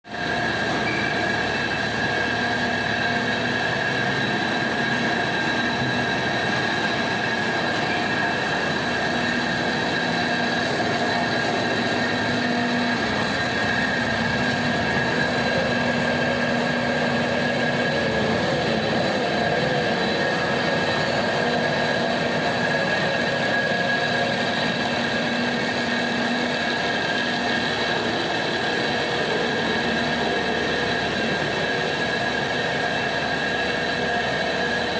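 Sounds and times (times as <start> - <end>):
wood chipper running: 0.1 - 34.9.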